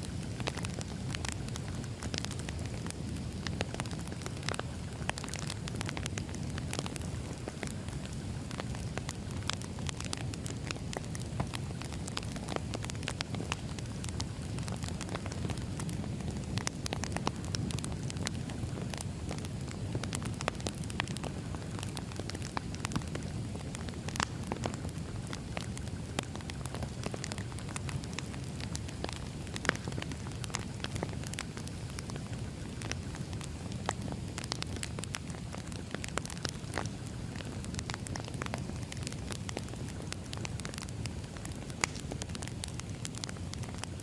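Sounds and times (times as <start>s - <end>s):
firewood crackling and popping: 0.0s - 44.0s
low rumble of flames: 0.0s - 44.0s.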